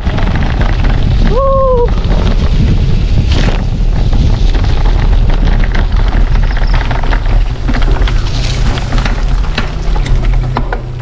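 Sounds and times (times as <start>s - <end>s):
mountain bike rattling on trail: 0.0s - 11.0s
wind buffeting microphone: 0.0s - 11.0s.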